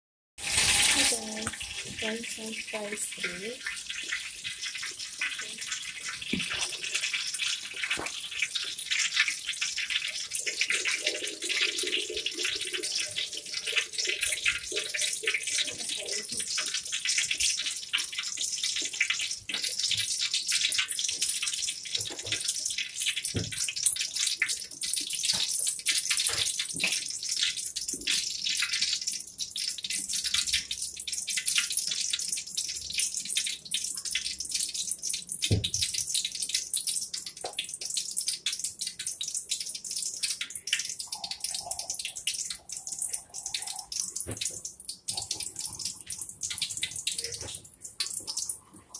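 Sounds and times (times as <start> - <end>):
tap water running into sink: 0.4 - 48.9.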